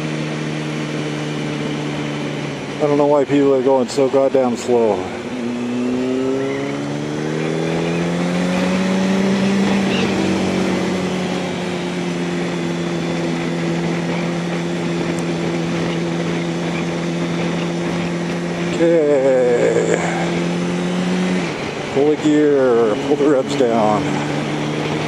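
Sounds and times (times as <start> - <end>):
motorcycle engine revving: 0.0 - 25.0
wind and road noise: 0.0 - 25.0.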